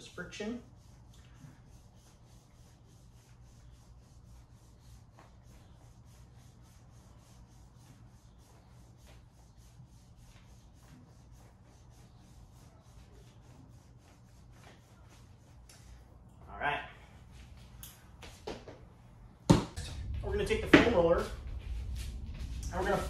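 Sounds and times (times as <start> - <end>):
massage stick rubbing on clothing: 0.0 - 16.3, 20.2 - 23.0.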